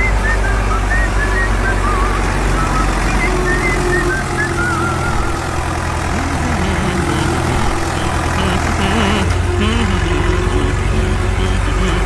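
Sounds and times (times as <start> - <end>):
heavy machine engine idling: 0.0 - 12.0.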